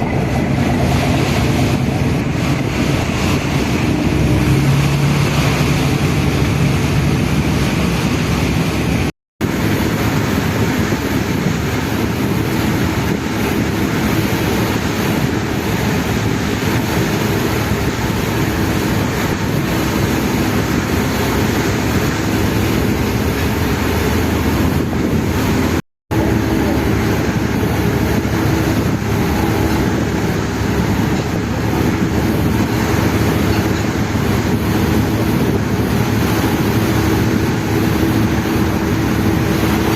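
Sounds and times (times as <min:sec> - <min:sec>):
ferry engine humming: 0:00.0 - 0:39.9
water noise: 0:00.0 - 0:39.9
wind: 0:00.0 - 0:39.9.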